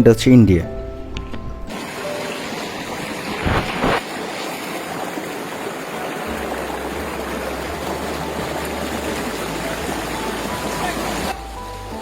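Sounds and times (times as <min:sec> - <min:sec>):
waterfall rushing water: 0:01.7 - 0:12.0.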